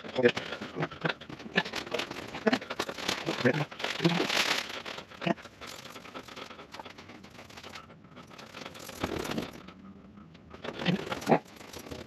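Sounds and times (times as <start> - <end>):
rustling and crackling handling noise: 0.0 - 12.0.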